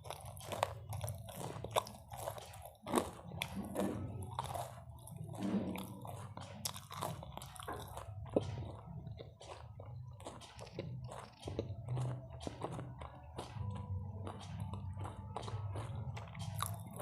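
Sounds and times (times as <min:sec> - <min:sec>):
crunching food: 0:00.0 - 0:17.0
wet chewing: 0:00.0 - 0:17.0.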